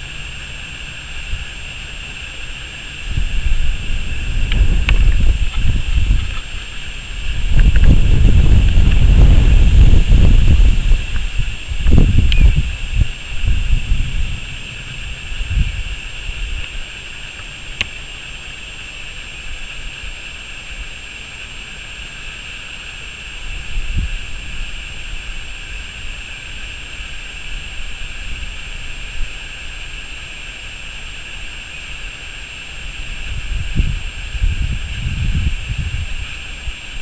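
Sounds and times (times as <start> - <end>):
steady high-pitched drone: 0.0 - 37.0
wind rumbling on microphone: 0.0 - 37.0.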